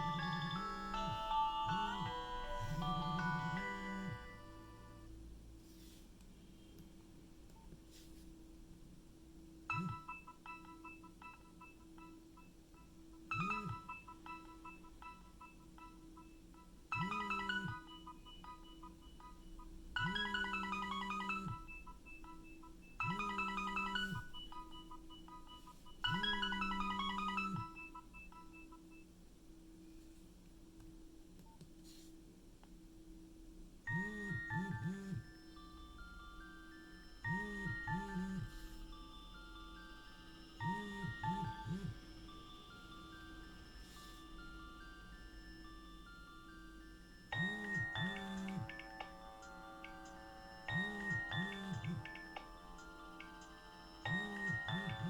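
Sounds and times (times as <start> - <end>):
mobile phone beeping ringtone: 0.0 - 5.1, 9.7 - 29.0, 33.9 - 55.0
faint hum: 0.0 - 55.0.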